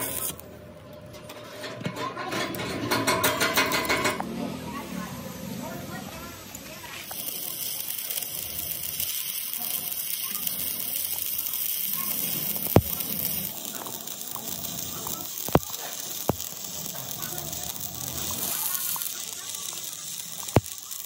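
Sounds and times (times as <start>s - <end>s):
hissing metalworking noise: 0.0s - 21.0s.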